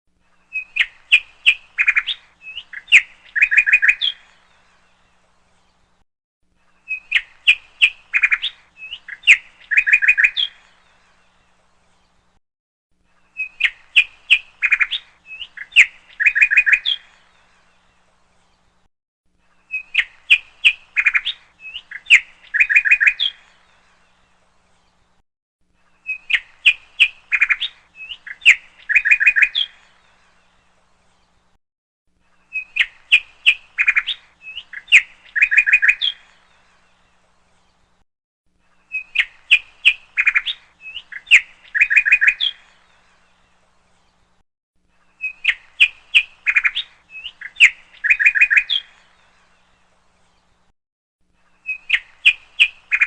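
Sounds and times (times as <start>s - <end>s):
bird-like chirps and trills: 0.2s - 6.0s, 6.6s - 12.4s, 13.0s - 25.2s, 25.8s - 31.6s, 32.2s - 38.0s, 38.6s - 50.7s, 51.4s - 53.0s.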